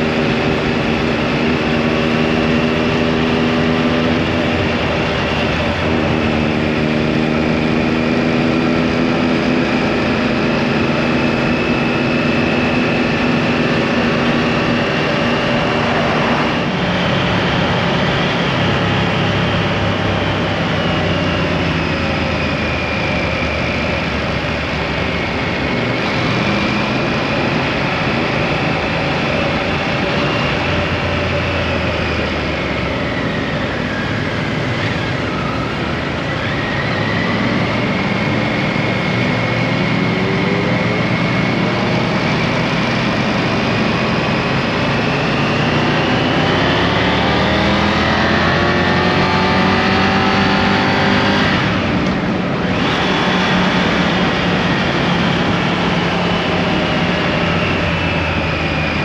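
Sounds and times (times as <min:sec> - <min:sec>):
motorcycle engine: 0:00.0 - 0:59.0
wind and road noise: 0:00.0 - 0:59.0.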